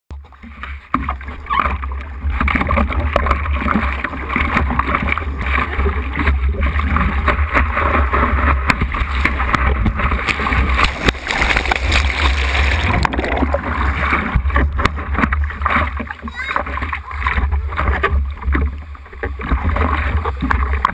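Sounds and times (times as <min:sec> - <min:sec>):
water rushing and splashing: 0:00.2 - 0:20.9
steady low rumble: 0:02.0 - 0:20.9.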